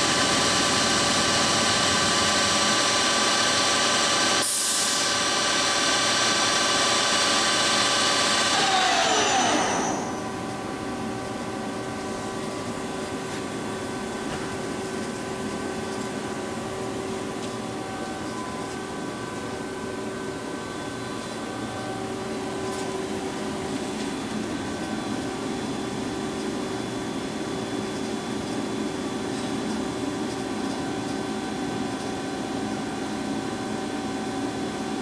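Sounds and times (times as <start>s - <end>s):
boring mill machine hum: 0.0s - 35.0s.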